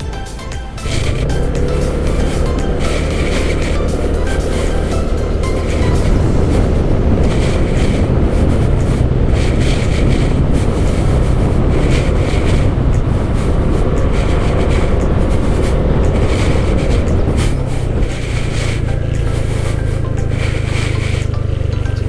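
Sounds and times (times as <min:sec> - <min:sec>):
motorcycle engine: 0:00.0 - 0:22.0
road rumble: 0:00.0 - 0:22.0
wind buffeting microphone: 0:00.7 - 0:22.0.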